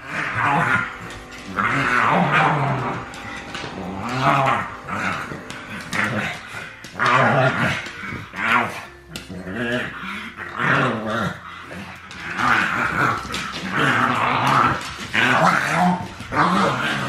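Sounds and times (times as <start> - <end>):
dogs growling: 0.0 - 17.0.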